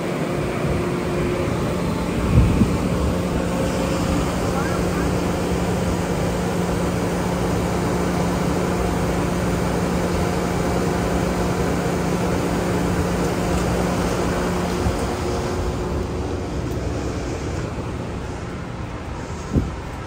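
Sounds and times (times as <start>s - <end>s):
railcar equipment humming: 0.0s - 20.0s.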